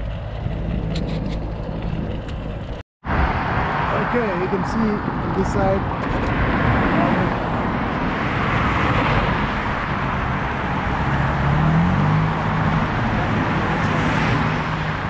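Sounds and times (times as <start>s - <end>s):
engine hum rising in pitch: 0.0s - 4.6s, 6.5s - 15.0s
road traffic: 0.0s - 15.0s.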